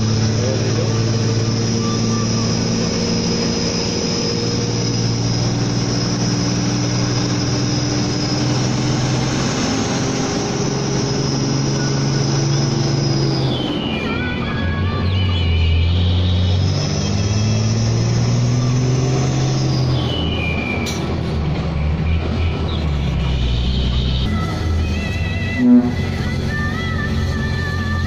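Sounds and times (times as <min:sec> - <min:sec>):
road and tyre noise: 0:00.0 - 0:28.0
truck diesel engine under load: 0:00.0 - 0:28.0.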